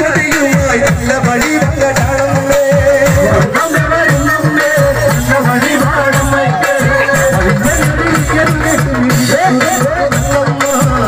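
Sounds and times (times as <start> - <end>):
fast drum beat: 0.0 - 11.0.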